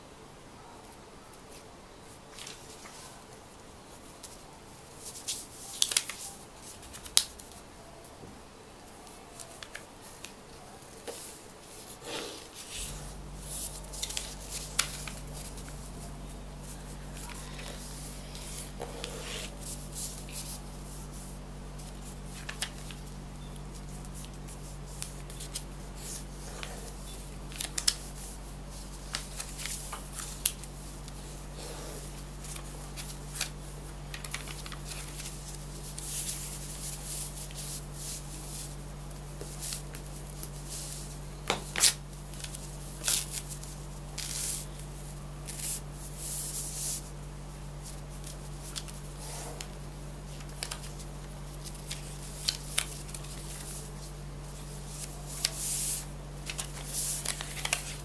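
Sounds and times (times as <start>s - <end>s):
steady low hum: 0.0s - 58.0s
paper crackling and rustling: 2.3s - 3.3s, 4.0s - 7.7s, 8.8s - 58.0s.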